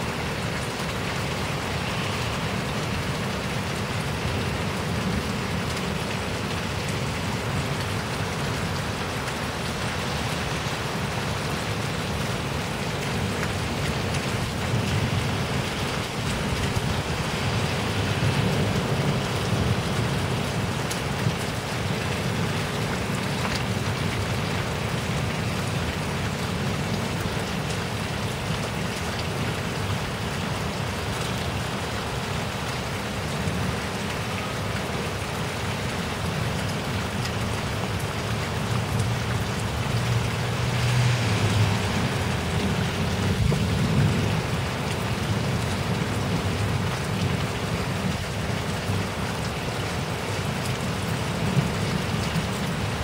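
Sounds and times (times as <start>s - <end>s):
heavy rain hiss: 0.0s - 53.0s.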